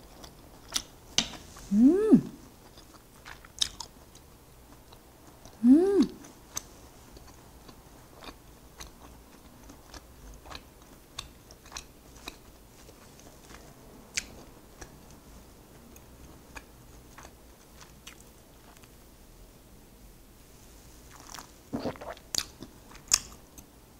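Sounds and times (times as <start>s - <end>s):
chewing with wet mouth clicks: 0.0s - 1.0s, 2.6s - 5.6s, 6.2s - 18.9s, 21.1s - 23.7s.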